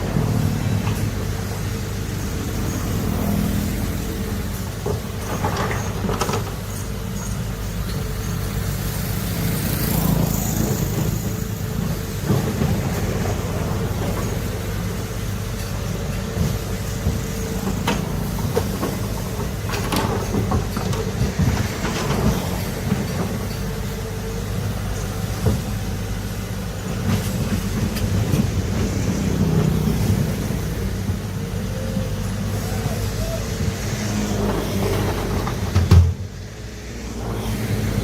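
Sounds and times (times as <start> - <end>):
diesel machinery engine running: 0.0 - 38.0.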